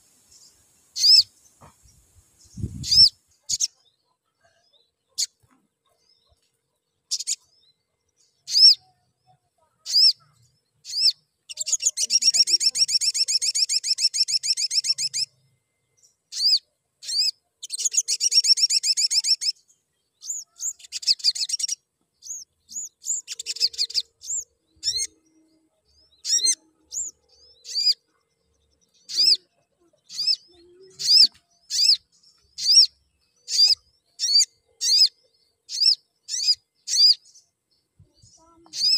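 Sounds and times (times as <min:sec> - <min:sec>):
sunbird chirps and trills: 0:00.0 - 0:38.9.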